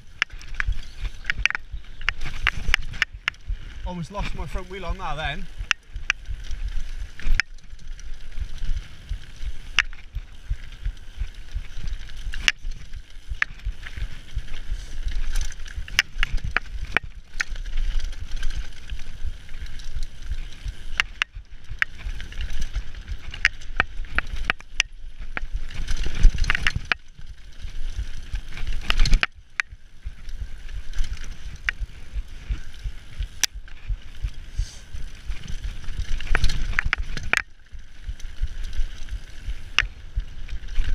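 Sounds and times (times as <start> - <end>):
bike clacking and rattling: 0.0 - 40.9
bike tyres rumbling over gravel: 0.0 - 40.9.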